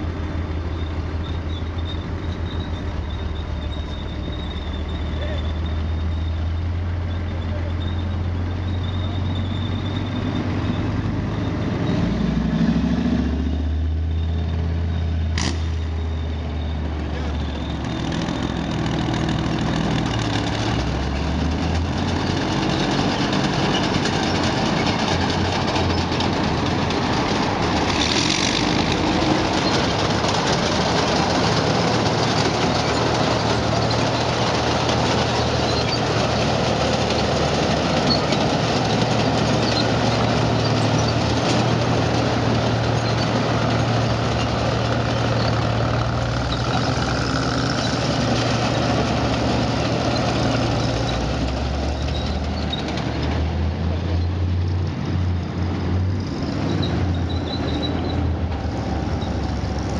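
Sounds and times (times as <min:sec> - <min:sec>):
heavy tank diesel engines: 0:00.0 - 0:59.9.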